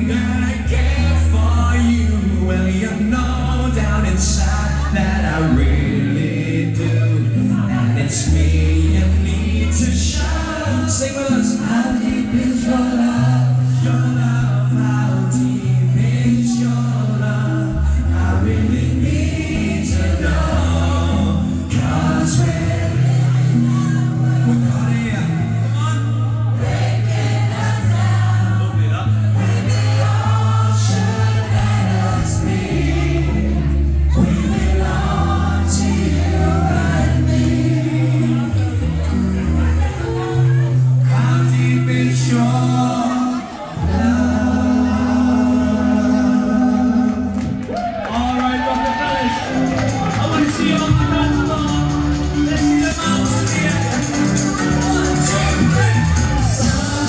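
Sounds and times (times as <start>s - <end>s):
male group singing in harmony: 0.0s - 47.6s, 49.6s - 57.0s
pop backing track: 0.0s - 57.0s.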